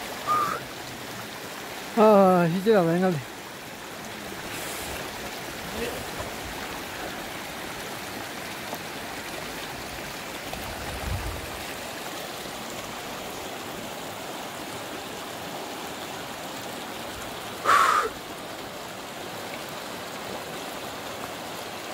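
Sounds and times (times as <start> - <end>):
stream rushing over rocks: 0.0 - 21.9.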